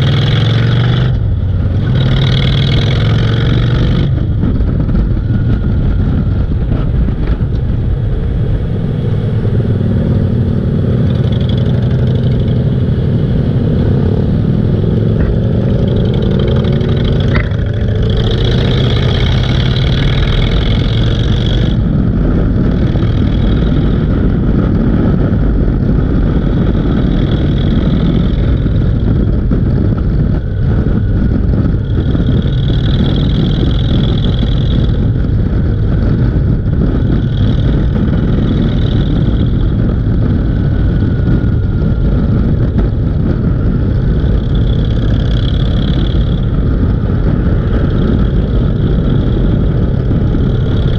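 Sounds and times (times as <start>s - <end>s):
motorcycle engine running: 0.0s - 50.9s
road noise: 0.0s - 50.9s.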